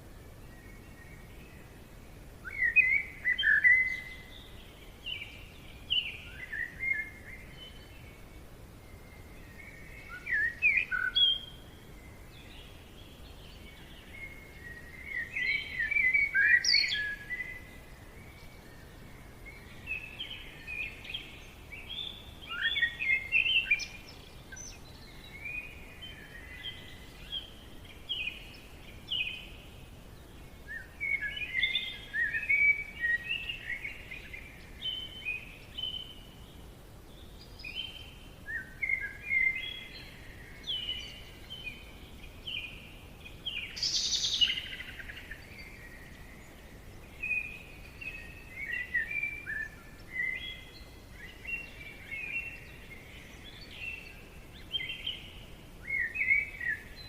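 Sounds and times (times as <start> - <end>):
faint background hiss: 0.0 - 57.0
songbirds warbling: 0.0 - 57.0.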